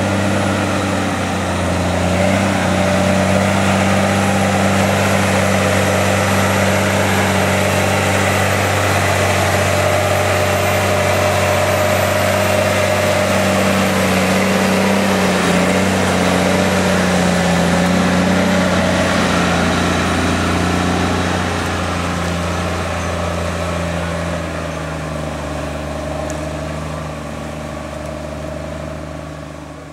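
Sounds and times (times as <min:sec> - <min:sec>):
tractor diesel engine running: 0:00.0 - 0:29.9.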